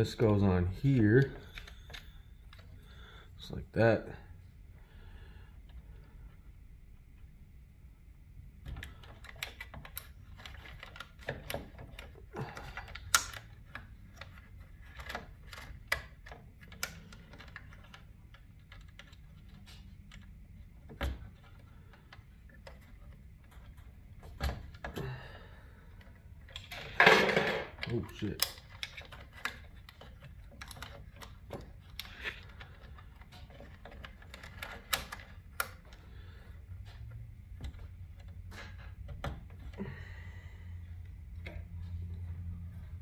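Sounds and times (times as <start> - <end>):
wires and connector clicking and rattling: 0.0 - 2.9, 8.4 - 25.2, 25.8 - 40.0, 40.8 - 43.0.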